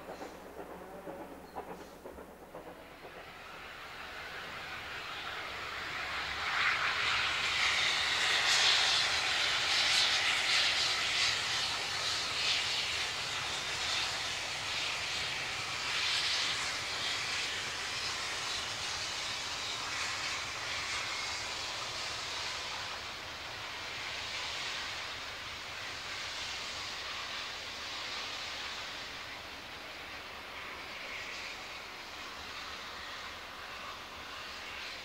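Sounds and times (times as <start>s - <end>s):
steam locomotive exhaust and hiss: 0.0s - 35.0s.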